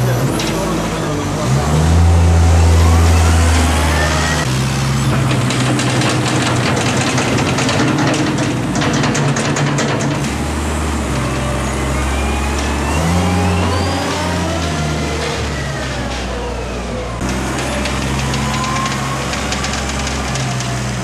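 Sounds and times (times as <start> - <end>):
wheel loader engine revving: 0.0 - 21.0.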